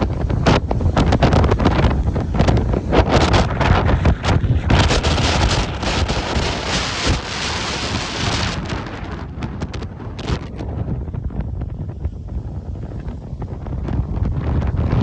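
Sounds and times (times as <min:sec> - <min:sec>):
waves breaking on shore: 0:00.0 - 0:15.0
wind buffeting microphone: 0:00.0 - 0:15.0.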